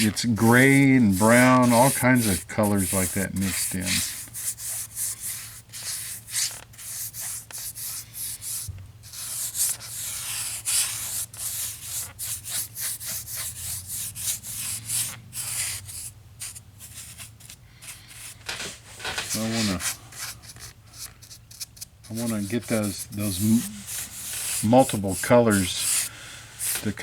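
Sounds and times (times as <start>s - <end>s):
brush scrubbing a surface: 0.0s - 8.6s, 9.2s - 15.8s, 16.4s - 27.0s.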